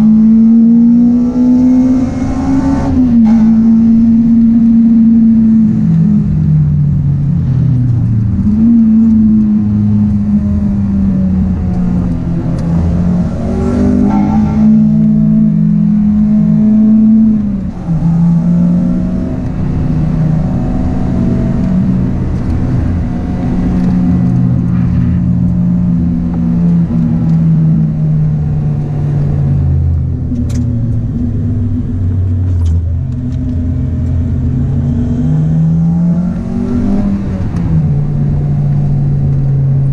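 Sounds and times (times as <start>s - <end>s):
car engine revving hard: 0.0s - 6.5s, 7.4s - 29.8s, 33.5s - 39.9s.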